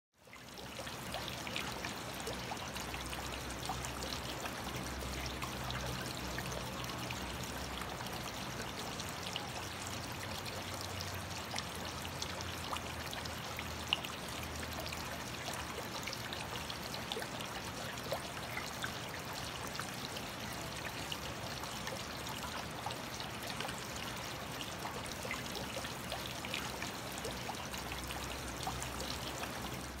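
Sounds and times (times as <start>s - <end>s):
aquarium water bubbling: 0.3s - 30.0s.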